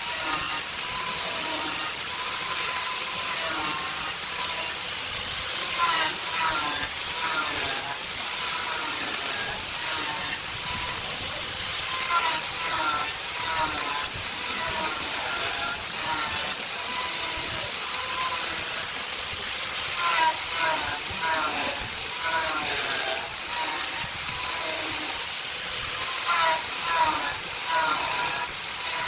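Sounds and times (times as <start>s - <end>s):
steady mechanical noise: 0.0s - 29.0s.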